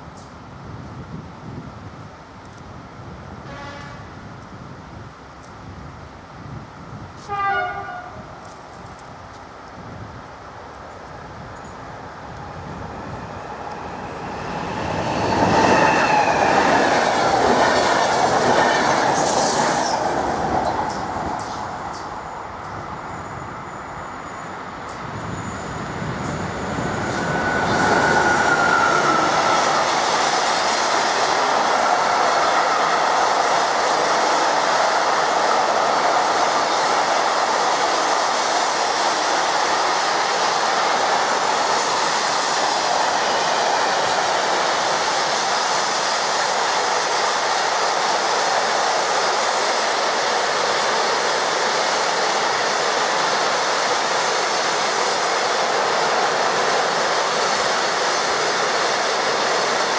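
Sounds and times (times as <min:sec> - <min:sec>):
freight train rolling past: 0:10.0 - 0:59.9.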